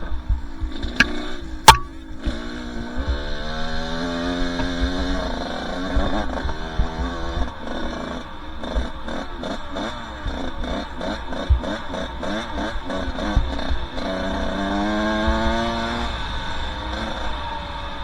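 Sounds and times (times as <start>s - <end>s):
two-stroke dirt bike engine revving: 0.0s - 18.0s.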